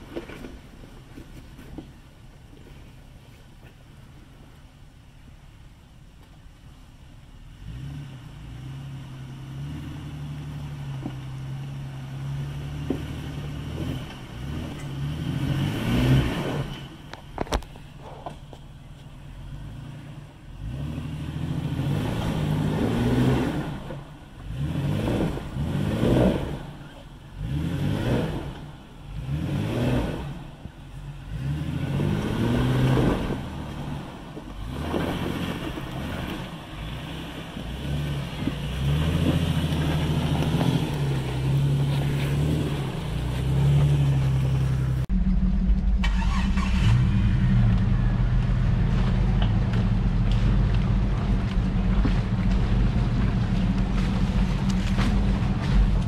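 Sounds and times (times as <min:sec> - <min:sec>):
deep steady engine drone: 0:00.0 - 0:56.0
truck engine revving: 0:07.6 - 0:17.5, 0:19.5 - 0:56.0.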